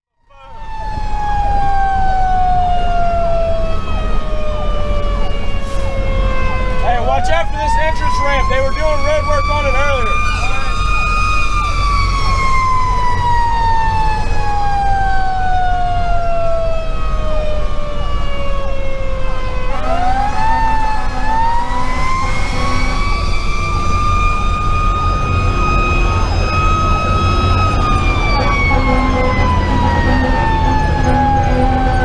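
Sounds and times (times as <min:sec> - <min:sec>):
mechanical siren wailing: 0:00.1 - 0:32.0
road noise: 0:00.1 - 0:32.0
diesel engine rumble: 0:00.3 - 0:32.0.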